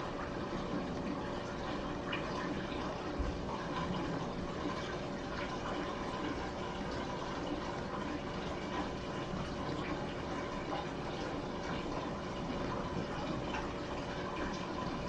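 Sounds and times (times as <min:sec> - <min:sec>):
faint hum: 0:00.0 - 0:15.0
water running and splashing: 0:00.0 - 0:15.0.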